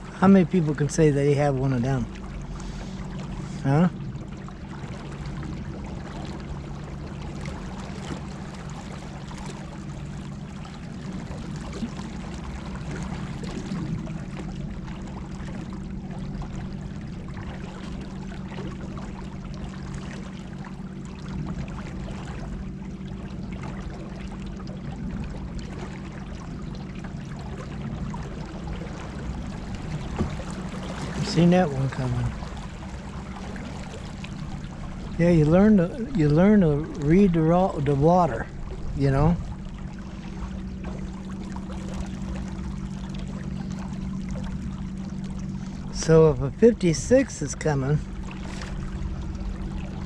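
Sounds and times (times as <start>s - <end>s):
water splashing against boat hull: 0.0s - 50.0s.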